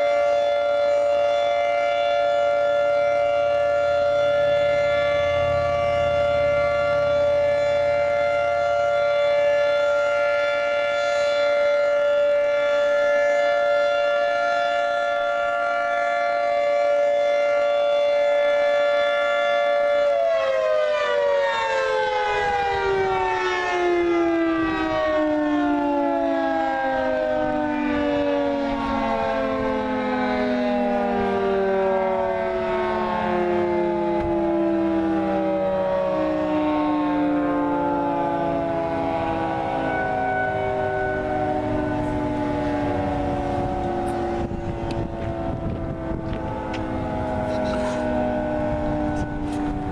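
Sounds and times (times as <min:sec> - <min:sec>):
two-tone warning siren: 0:00.0 - 0:49.9.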